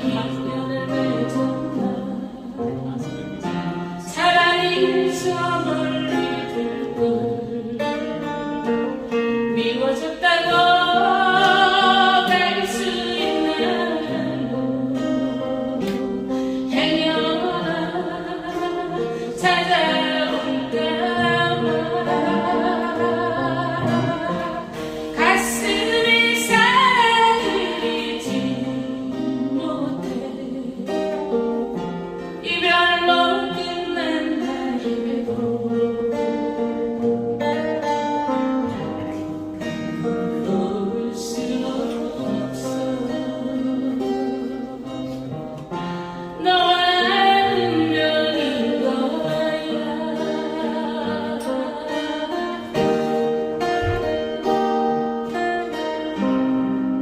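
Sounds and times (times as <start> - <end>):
guitar accompaniment: 0.0 - 57.0
person singing with vibrato: 0.0 - 57.0.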